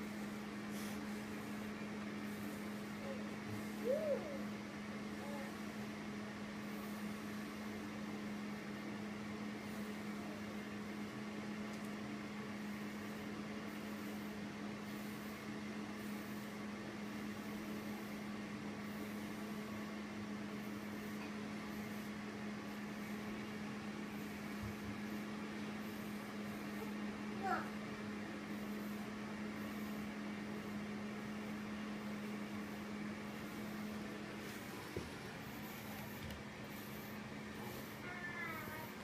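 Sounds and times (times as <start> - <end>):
appliance humming with hiss: 0.0 - 39.0.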